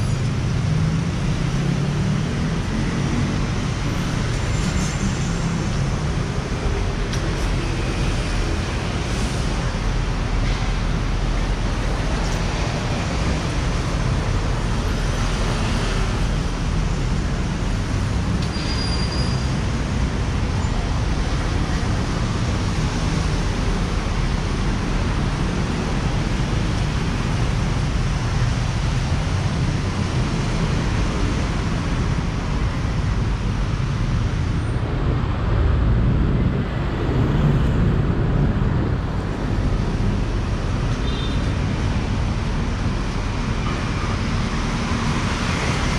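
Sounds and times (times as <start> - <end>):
road traffic rumble: 0.0 - 45.9.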